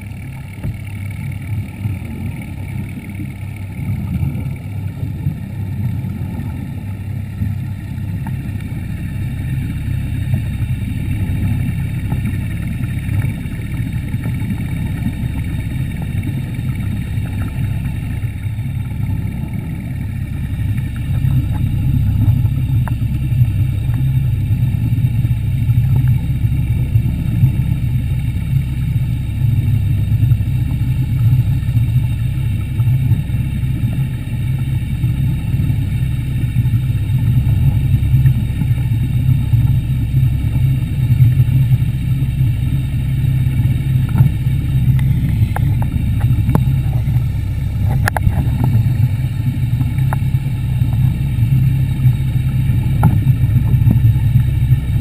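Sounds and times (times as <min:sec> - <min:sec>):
muffled underwater motor drone: 0:00.0 - 0:55.0.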